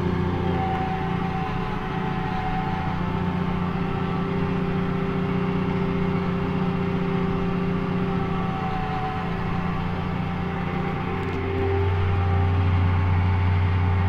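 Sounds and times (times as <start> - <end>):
tractor diesel engine drone: 0.0 - 14.0.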